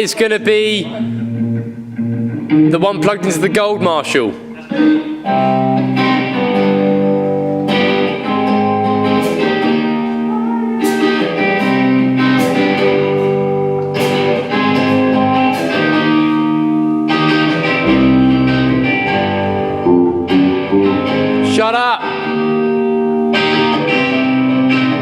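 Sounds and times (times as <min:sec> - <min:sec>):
electric guitar strumming chords: 0:00.0 - 0:25.0.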